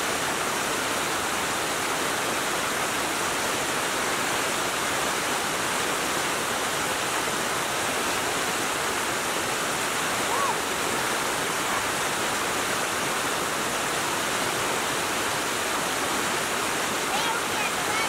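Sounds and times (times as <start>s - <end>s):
water rushing down spillway: 0.0s - 18.0s.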